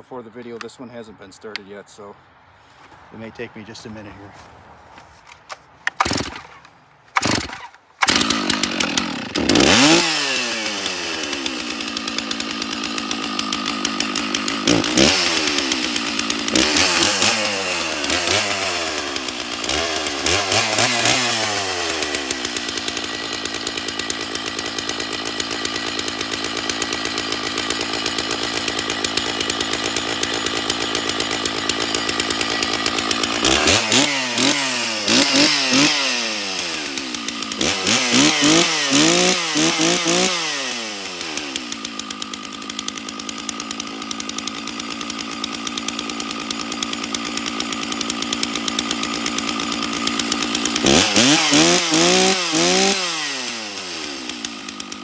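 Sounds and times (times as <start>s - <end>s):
chainsaw starting and revving: 5.8s - 55.0s.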